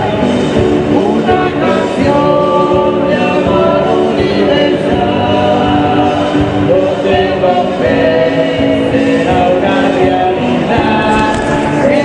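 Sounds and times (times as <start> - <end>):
group singing a hymn: 0.0 - 12.0
guitar accompaniment: 0.0 - 12.0.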